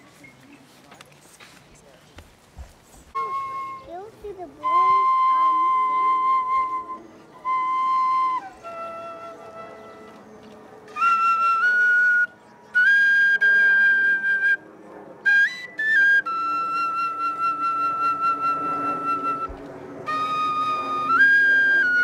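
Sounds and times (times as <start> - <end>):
flute-like wind instrument: 3.1 - 22.0.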